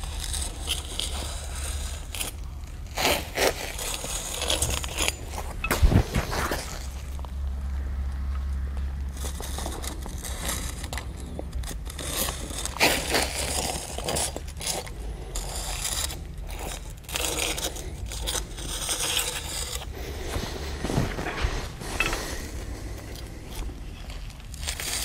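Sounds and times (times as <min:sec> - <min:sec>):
marking tool scratching pavers: 0:00.0 - 0:07.2, 0:09.2 - 0:25.0.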